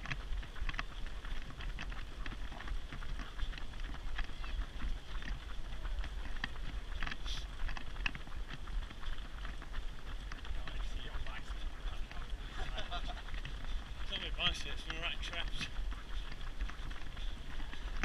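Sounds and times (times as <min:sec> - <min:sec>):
runners' footsteps on tarmac: 0:00.0 - 0:18.0.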